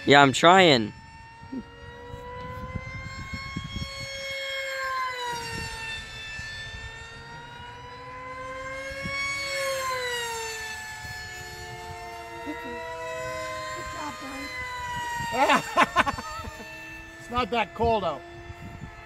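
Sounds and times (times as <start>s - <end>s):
model jet motors whining: 0.0s - 19.0s.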